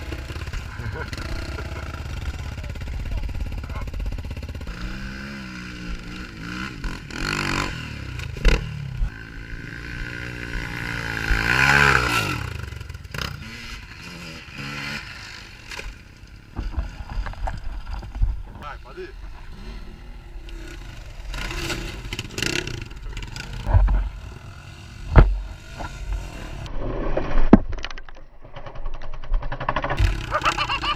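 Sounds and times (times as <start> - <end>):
dirt bike engine revving: 0.0 - 17.4, 18.0 - 26.7, 29.8 - 30.9.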